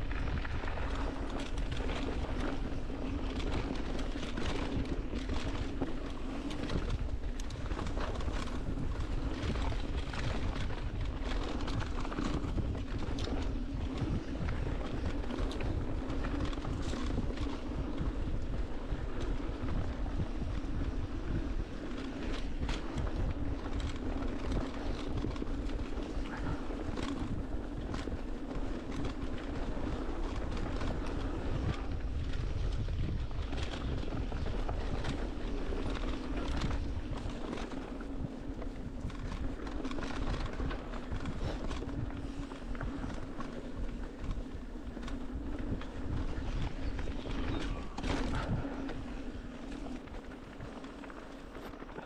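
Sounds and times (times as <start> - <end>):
bike clicks and rattles: 0.0 - 52.0
wind on microphone: 0.0 - 52.0.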